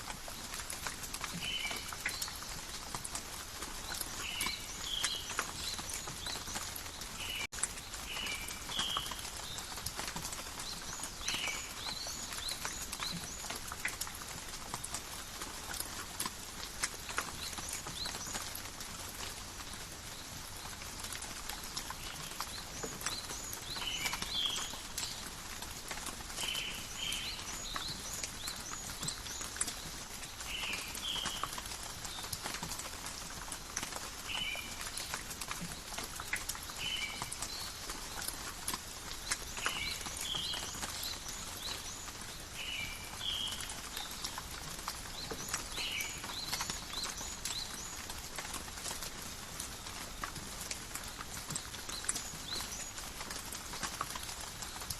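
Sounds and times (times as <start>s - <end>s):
drops ticking and dripping: 0.0s - 42.4s, 43.1s - 54.9s
rain falling in forest: 0.0s - 54.9s.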